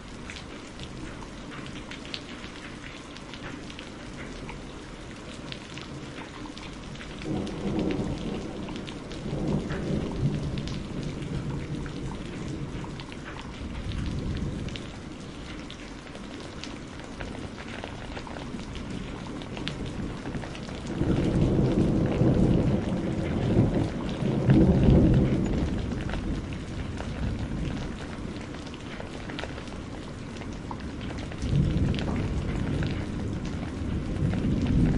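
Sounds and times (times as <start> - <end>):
steady rain: 0.0 - 34.9
thunder rumbling: 5.4 - 34.9.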